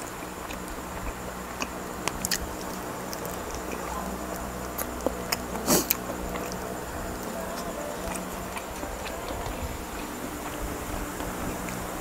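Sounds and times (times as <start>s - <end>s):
chewing and biting: 0.0s - 11.8s
steady low hum: 0.0s - 12.0s.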